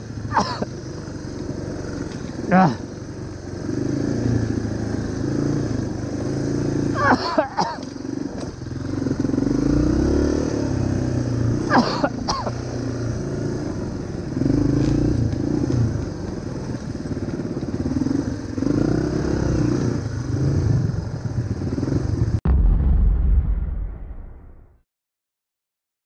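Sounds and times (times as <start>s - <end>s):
dirt bike engine revving: 0.0s - 22.4s.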